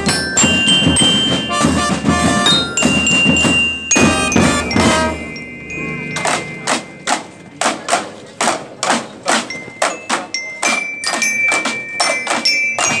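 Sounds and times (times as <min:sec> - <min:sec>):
marching drums beating: 0:00.0 - 0:05.4, 0:06.1 - 0:13.0
high ringing bell-like notes: 0:00.0 - 0:07.6, 0:09.4 - 0:13.0.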